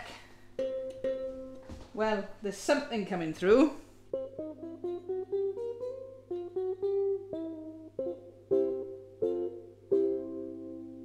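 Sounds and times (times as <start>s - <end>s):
electric ukulele plucked and strummed: 0.0s - 2.0s, 4.1s - 11.0s.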